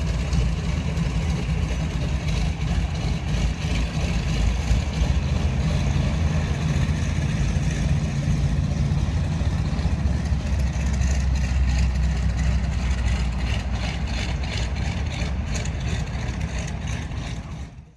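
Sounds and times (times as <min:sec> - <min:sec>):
propeller plane engines rumbling: 0:00.0 - 0:17.9.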